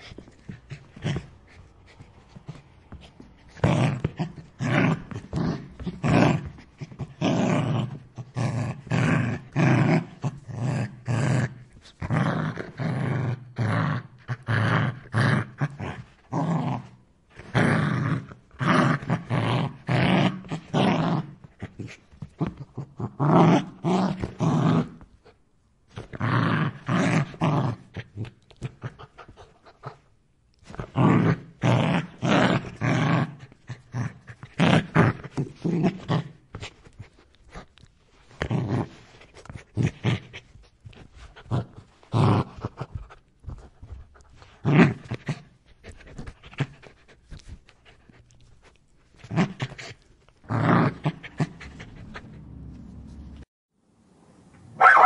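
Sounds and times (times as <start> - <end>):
dog growling and snarling: 0.0 - 53.5.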